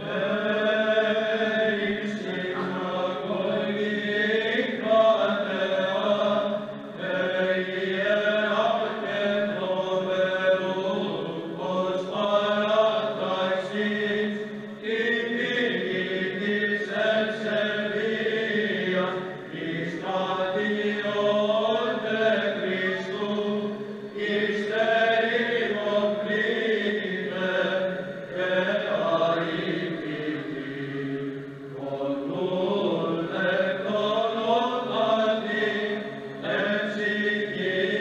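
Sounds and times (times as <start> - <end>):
low vocal drone: 0.0 - 38.0
male choir chanting in unison: 0.0 - 38.0.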